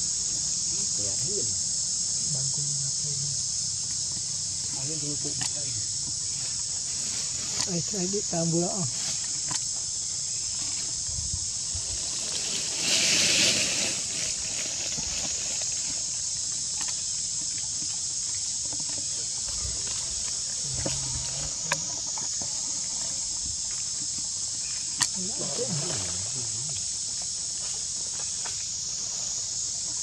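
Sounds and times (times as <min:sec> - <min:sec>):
insects droning: 0:00.0 - 0:30.0
rustling hiss: 0:00.0 - 0:30.0.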